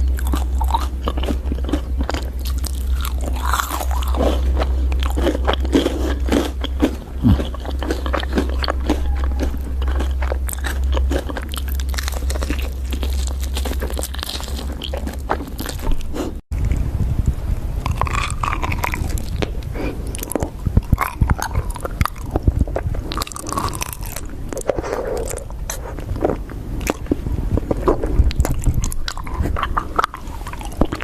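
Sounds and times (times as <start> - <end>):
chewing crunchy food: 0.0 - 16.8, 17.8 - 31.0
steady low hum: 0.0 - 31.0.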